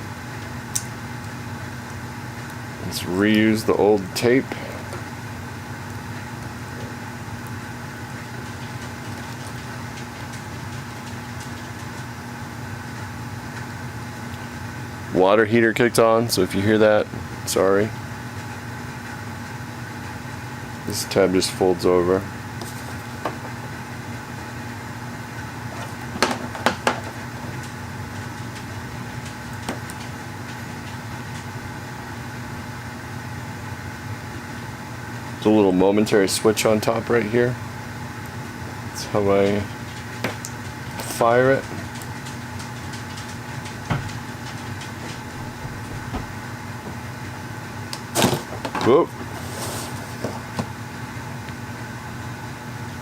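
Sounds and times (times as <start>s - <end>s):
water heater humming: 0.0s - 53.0s.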